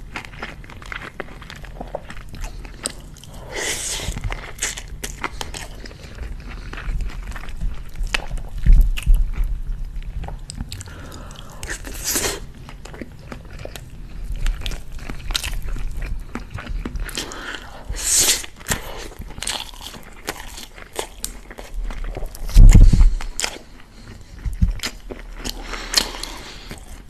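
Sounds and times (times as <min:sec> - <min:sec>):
chewing with mouth clicks: 0:00.0 - 0:27.0.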